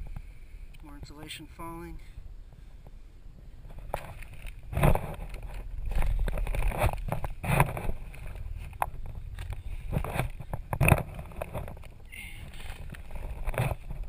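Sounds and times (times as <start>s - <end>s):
rustling and scraping in crawlspace: 1.9s - 14.0s.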